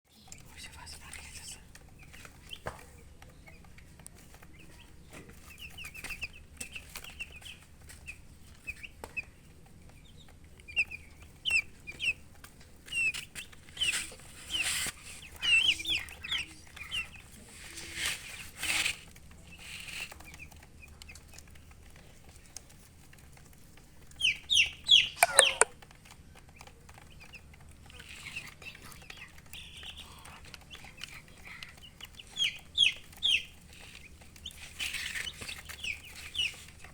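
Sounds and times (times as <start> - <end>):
chicks peeping: 0.2 - 36.9.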